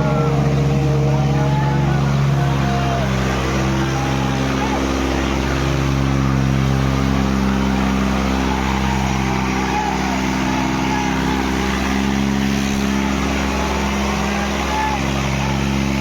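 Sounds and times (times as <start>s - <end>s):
diesel tractor engines under load: 0.0s - 16.0s.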